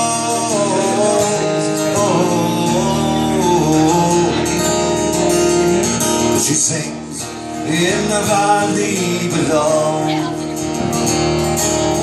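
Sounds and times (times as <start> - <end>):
person singing: 0.0 - 10.6
acoustic guitar: 0.0 - 12.0.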